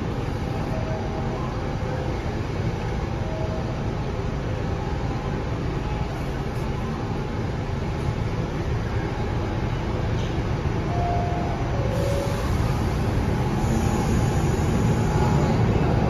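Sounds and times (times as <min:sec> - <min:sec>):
subway car low rumble: 0:00.0 - 0:16.0.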